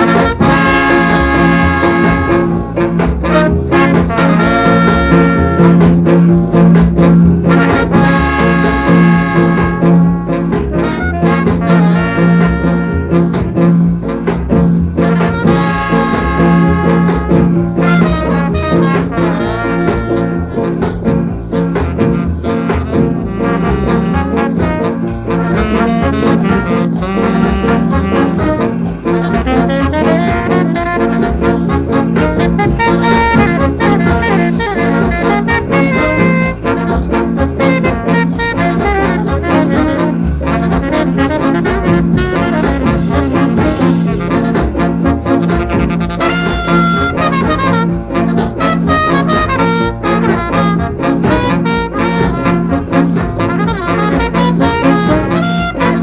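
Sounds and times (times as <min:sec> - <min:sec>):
bass: 0:00.0 - 0:56.0
drums: 0:00.0 - 0:56.0
horn section playing melody: 0:00.0 - 0:56.0.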